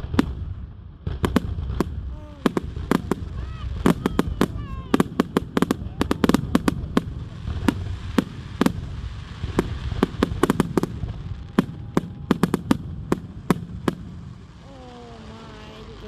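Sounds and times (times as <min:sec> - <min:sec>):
fireworks cracks and bangs: 0:00.0 - 0:16.0.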